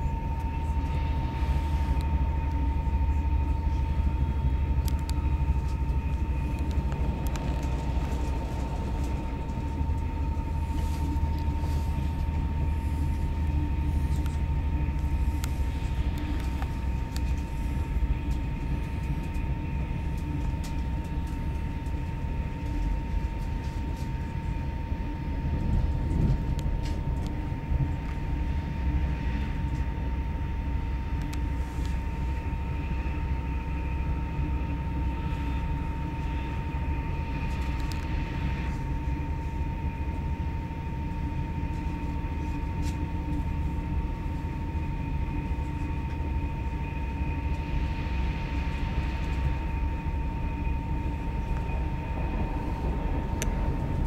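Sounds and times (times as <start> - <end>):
high whine: 0.0 - 54.0
train wheels rumbling on track: 0.0 - 54.0.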